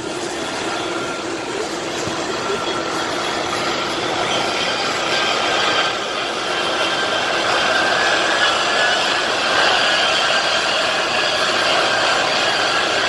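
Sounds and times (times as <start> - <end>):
jet engine rush with whine: 0.0 - 13.0.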